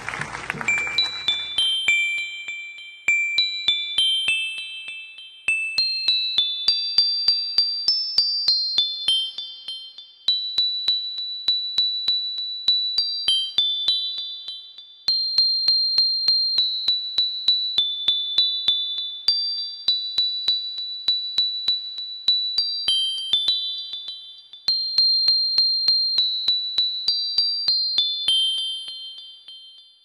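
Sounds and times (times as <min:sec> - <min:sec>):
bell-like tinkling melody: 0:00.0 - 0:30.0.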